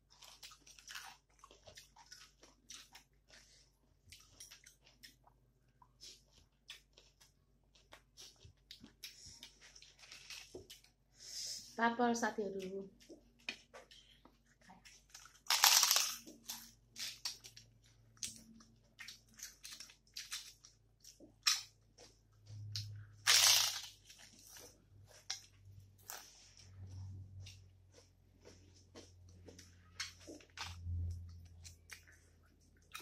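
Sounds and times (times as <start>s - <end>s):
crisp food crunching when chewed: 0.0s - 11.0s, 13.0s - 33.0s.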